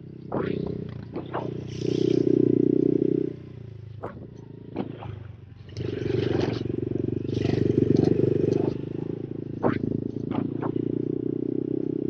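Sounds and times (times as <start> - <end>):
motorbike engine under throttle: 0.0 - 12.0.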